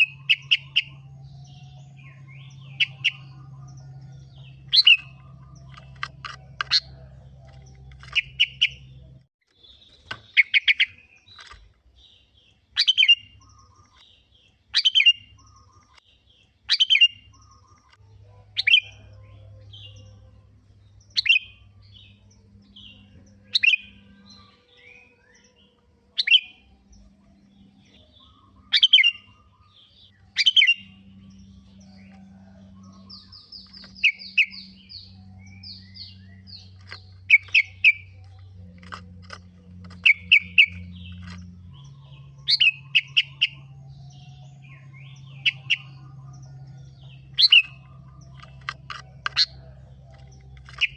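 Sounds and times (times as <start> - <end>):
bird chirping: 0.0 - 50.9.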